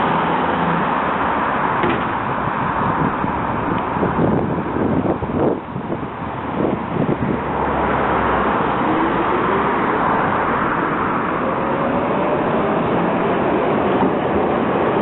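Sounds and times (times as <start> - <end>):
tram rumbling past: 0.0 - 15.0.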